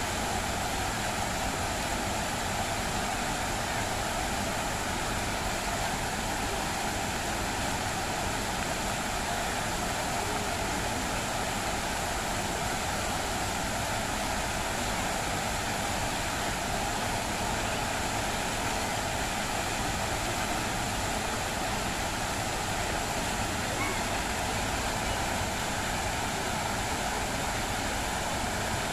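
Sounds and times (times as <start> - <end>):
fountain water splashing: 0.0 - 28.9.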